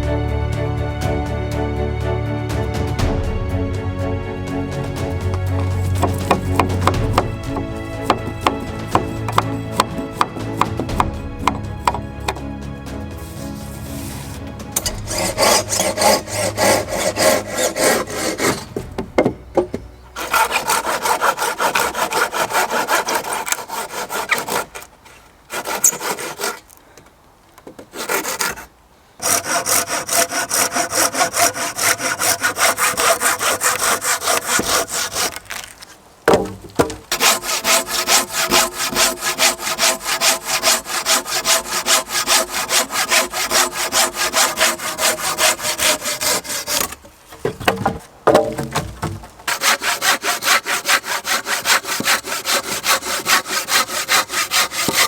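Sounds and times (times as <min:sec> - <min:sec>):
hand saw cutting logs: 0:04.8 - 0:26.8, 0:27.8 - 0:55.0.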